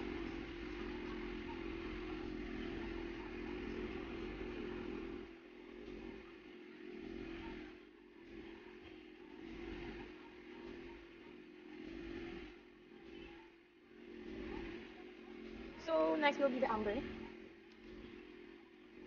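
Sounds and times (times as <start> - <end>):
traffic hum: 0.0 - 19.0
vehicles passing: 0.0 - 19.0.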